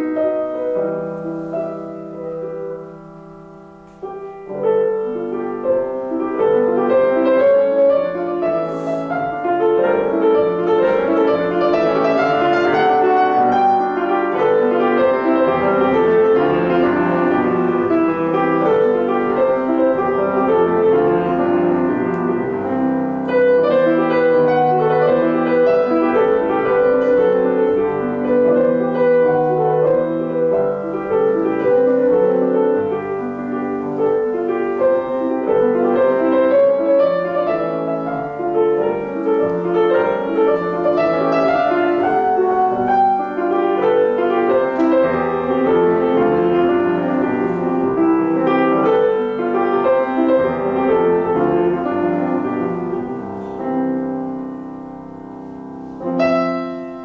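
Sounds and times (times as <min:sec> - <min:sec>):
piano notes: 0:00.0 - 0:57.0.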